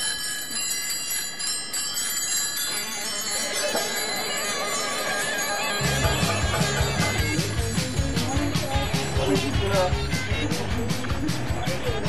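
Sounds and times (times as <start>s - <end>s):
bells ringing and chiming: 0.0s - 12.0s.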